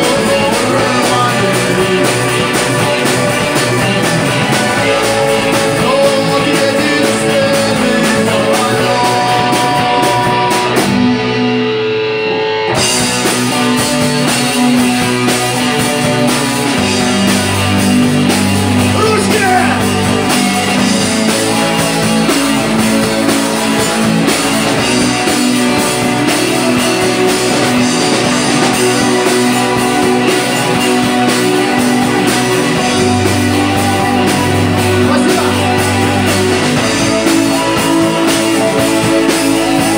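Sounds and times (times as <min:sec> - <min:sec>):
person singing: 0:00.0 - 0:11.1, 0:15.0 - 0:39.9
live rock band playing: 0:00.0 - 0:39.9.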